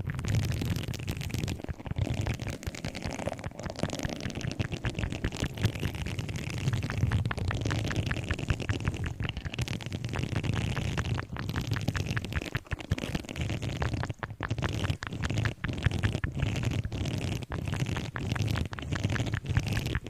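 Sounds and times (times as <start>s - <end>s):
crackle of clicks and scratches: 0.0s - 20.0s.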